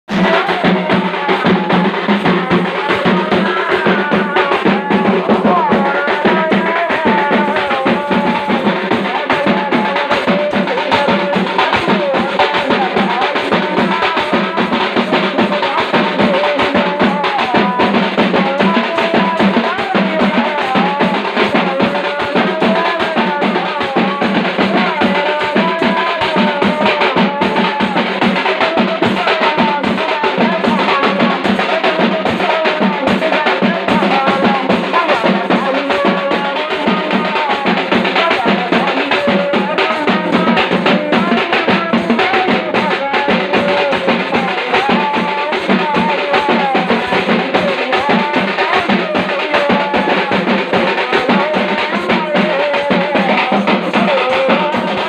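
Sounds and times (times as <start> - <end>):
frame drums beaten fast: 0.0 - 55.0.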